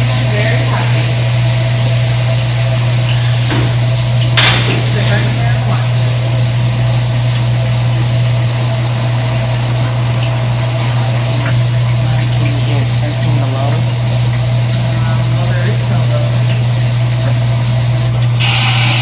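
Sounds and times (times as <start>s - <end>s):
high whine: 0.0s - 19.0s
washing machine humming: 0.0s - 19.0s.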